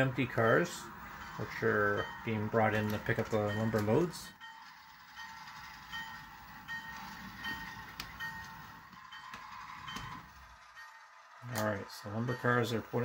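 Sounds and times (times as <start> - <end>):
model train engine rumble: 0.0 - 13.0
bell-like ringing: 0.3 - 13.0.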